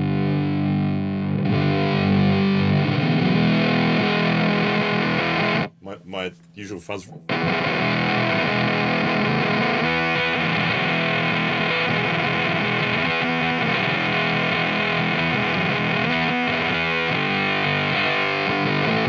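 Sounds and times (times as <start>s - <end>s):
fuzzed electric guitar: 0.0s - 5.7s, 7.3s - 19.0s.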